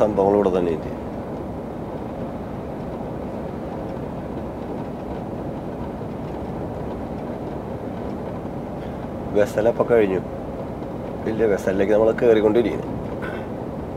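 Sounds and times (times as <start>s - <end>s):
road noise: 0.0s - 13.9s
truck engine: 0.0s - 13.9s.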